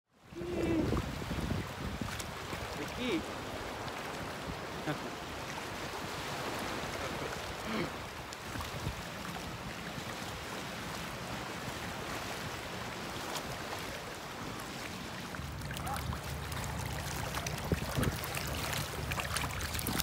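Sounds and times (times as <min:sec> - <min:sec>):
surf washing over sand: 0:00.2 - 0:20.0.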